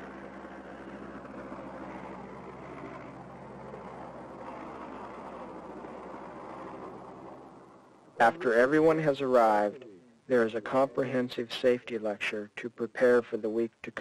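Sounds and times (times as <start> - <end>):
aircraft engine hum in cabin: 0.0 - 12.1.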